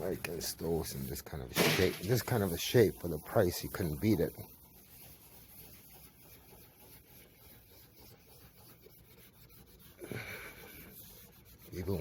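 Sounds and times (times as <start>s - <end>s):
scrub pad scouring stovetop: 0.0s - 12.0s.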